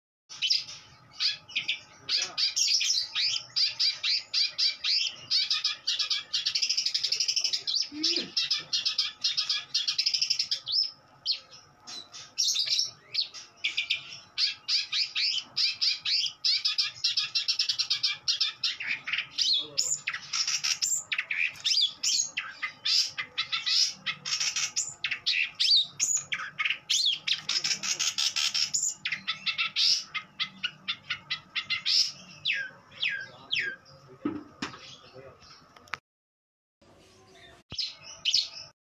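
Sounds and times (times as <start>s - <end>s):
songbird chirping and trilling: 0.3s - 36.0s, 36.9s - 38.8s.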